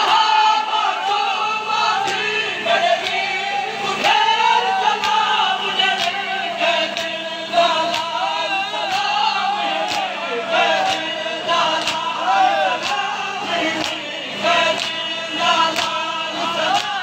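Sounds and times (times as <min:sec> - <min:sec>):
crowd joining recitation: 0:00.0 - 0:17.0.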